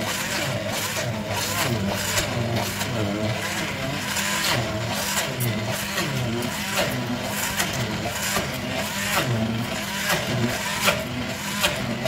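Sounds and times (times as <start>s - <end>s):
hand blender motor running: 0.0s - 12.0s.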